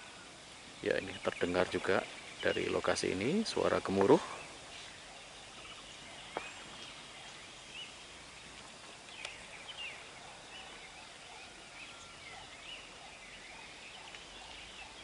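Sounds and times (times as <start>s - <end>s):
birds chirping and whistling: 0.0s - 15.0s
faint background hiss: 0.0s - 15.0s.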